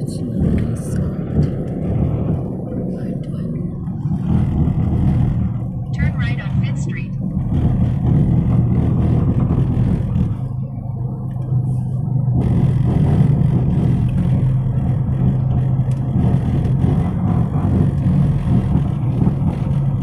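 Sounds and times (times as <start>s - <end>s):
car engine hum from inside: 0.0s - 20.0s
road noise: 0.0s - 20.0s.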